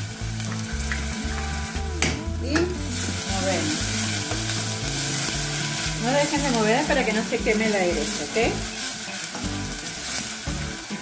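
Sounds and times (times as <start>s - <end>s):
low background music: 0.0s - 11.0s
onion and garlic sizzling in oil: 0.0s - 11.0s.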